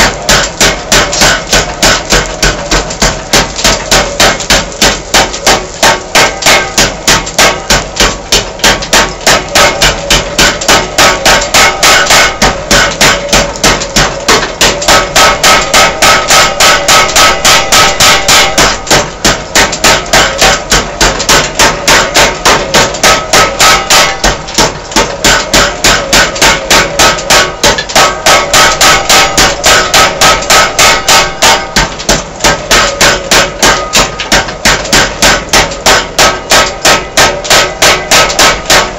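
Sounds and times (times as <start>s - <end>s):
power hammer pounding steel: 0.0s - 38.9s.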